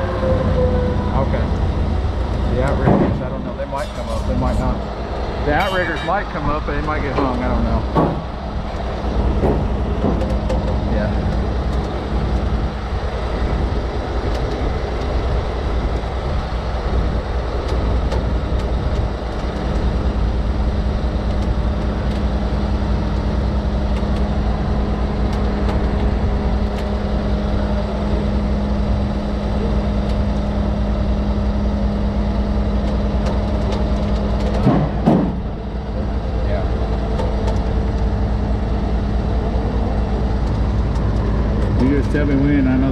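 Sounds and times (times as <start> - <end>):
diesel engine running: 0.0 - 42.9
steady hum: 0.0 - 42.9.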